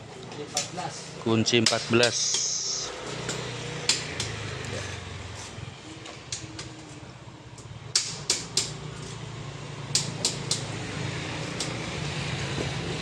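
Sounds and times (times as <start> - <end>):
background traffic hum: 0.0 - 13.0.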